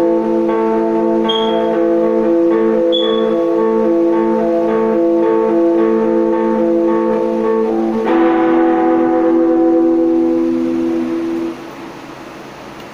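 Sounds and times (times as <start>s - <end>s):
electric guitar chords: 0.0s - 12.5s
steady hiss: 0.0s - 12.9s.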